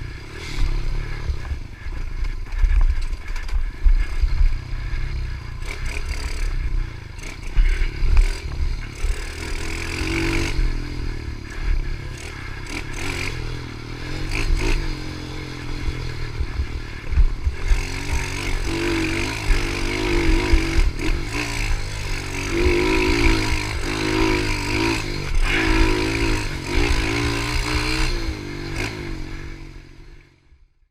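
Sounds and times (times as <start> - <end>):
small motorbike engine revving: 0.0 - 30.4.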